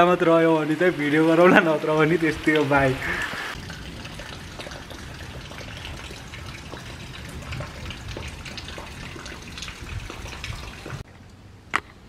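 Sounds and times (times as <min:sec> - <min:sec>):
rain falling: 0:00.0 - 0:11.0
raindrops tapping: 0:00.0 - 0:11.1.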